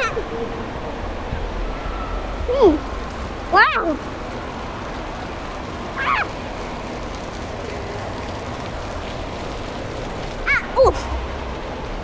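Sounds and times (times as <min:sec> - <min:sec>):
echoing indoor background din: 0:00.0 - 0:12.0
rushing water: 0:00.0 - 0:12.0.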